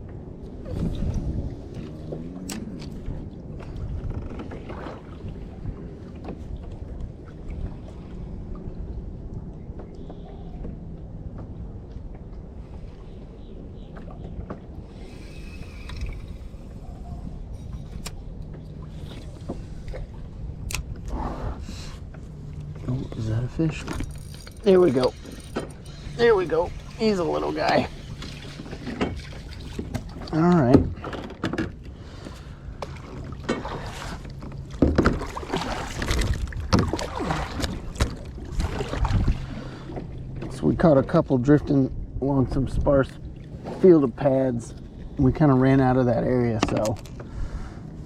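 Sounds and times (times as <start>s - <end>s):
wind rumbling on microphone: 0.0s - 48.0s.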